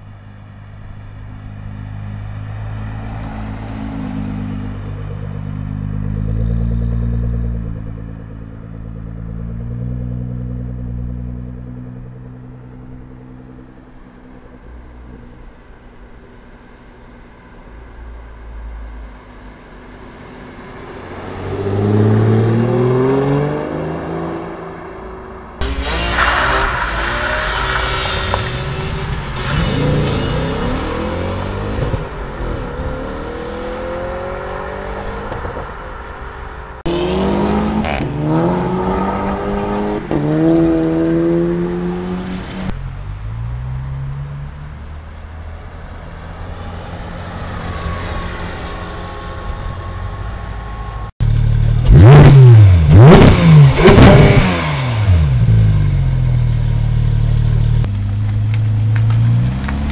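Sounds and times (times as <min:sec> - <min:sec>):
sports car engines accelerating: 0:00.0 - 0:59.9
car engine revving while stationary: 0:00.9 - 0:14.6, 0:19.3 - 0:59.9.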